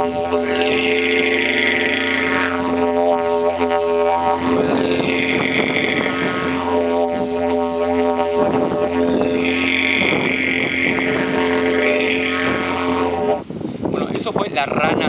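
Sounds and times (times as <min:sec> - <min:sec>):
bright upper overtone: 0:00.0 - 0:13.5
didgeridoo drone: 0:00.0 - 0:14.3.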